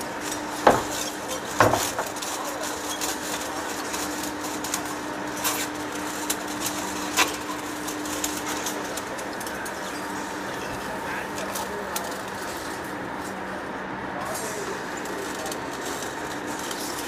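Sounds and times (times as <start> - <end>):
machine hum with low drone: 0.0 - 17.0.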